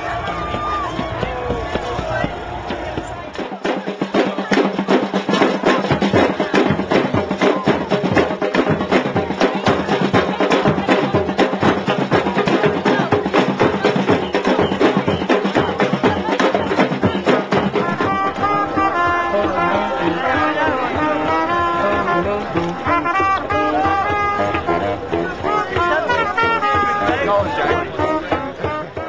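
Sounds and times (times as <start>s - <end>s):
drums playing fast rhythm: 0.0s - 29.0s.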